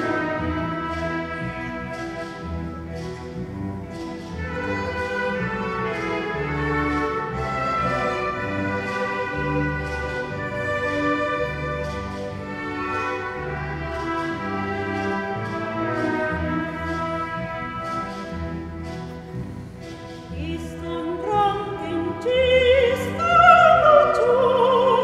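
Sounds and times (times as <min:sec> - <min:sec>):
bowed strings sustained: 0:00.0 - 0:25.0.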